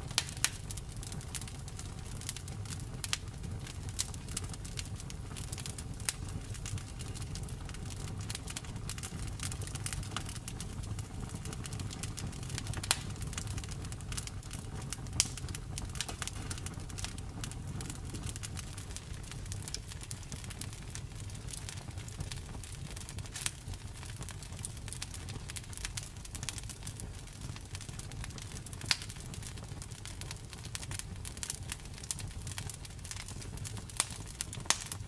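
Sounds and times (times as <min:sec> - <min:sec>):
fire popping and snapping: 0:00.0 - 0:35.0
wood fire rumbling: 0:00.0 - 0:35.0.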